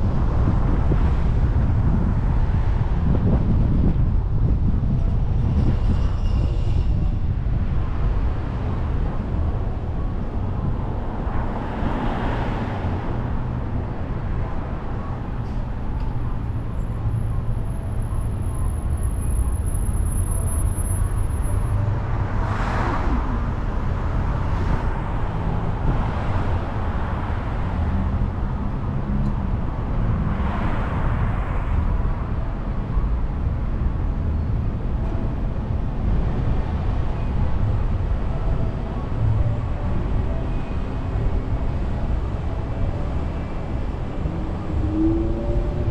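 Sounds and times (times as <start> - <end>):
car road noise rumble: 0.0 - 45.9
traffic noise swells: 0.0 - 45.9.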